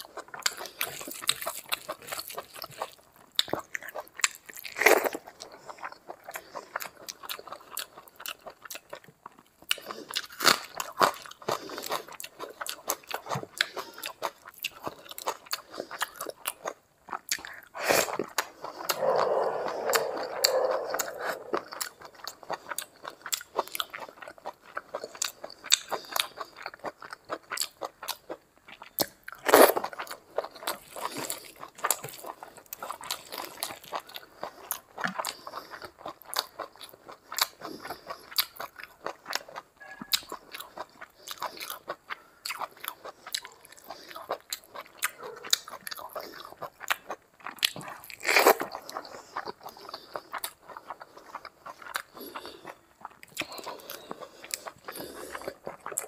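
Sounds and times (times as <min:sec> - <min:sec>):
wet chewing with mouth clicks: 0:00.0 - 0:56.0.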